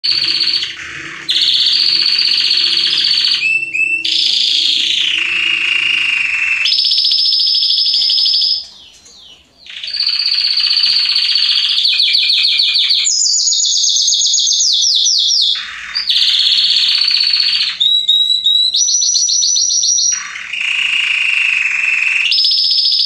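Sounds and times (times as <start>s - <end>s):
canary singing trills: 0.0s - 23.0s.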